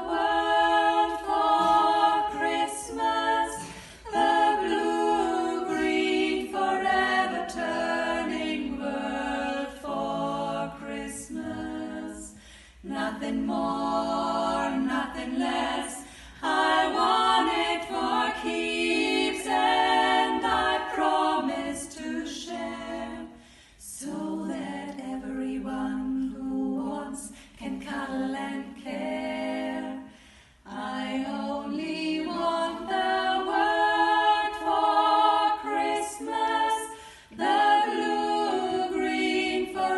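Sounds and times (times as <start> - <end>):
female vocal group singing a cappella: 0.0 - 39.9.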